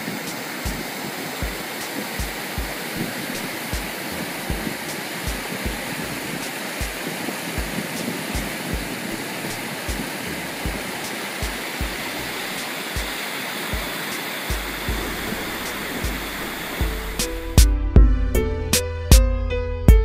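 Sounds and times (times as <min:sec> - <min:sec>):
water rushing over a dam: 0:00.0 - 0:17.4
music with low bass beat: 0:00.1 - 0:20.0.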